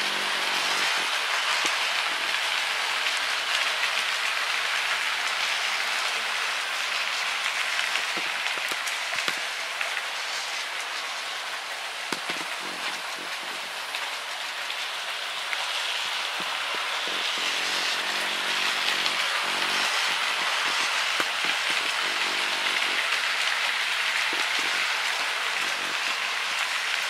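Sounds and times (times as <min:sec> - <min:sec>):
model train wheels hissing: 0:00.0 - 0:27.0.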